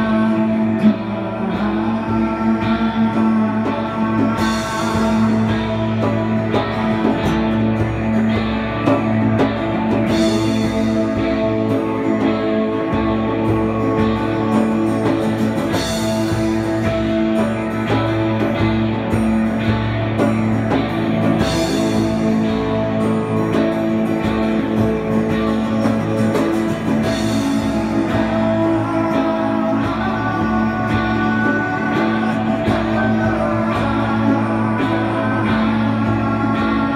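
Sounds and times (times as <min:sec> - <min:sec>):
rock band playing slow song: 0:00.0 - 0:36.9.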